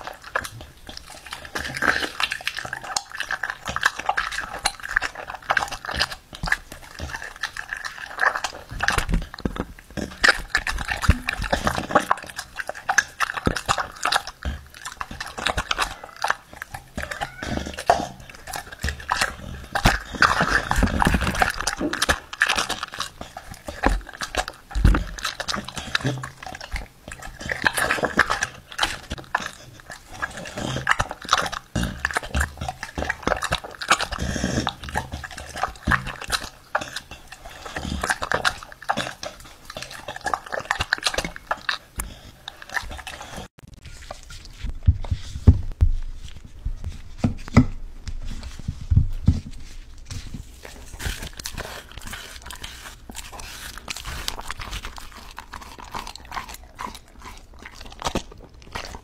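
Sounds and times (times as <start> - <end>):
dogs eating and licking: 0.0 - 59.0.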